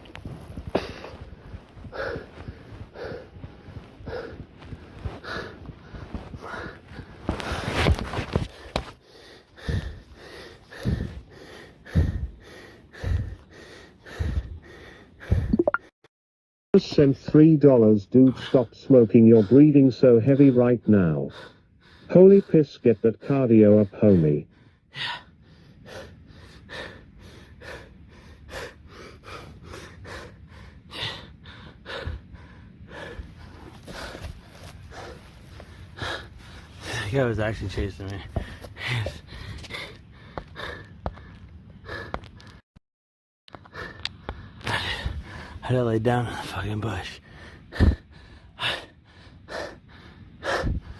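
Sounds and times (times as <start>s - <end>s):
man panting heavily: 0.3s - 15.5s, 18.2s - 42.6s, 43.5s - 50.9s.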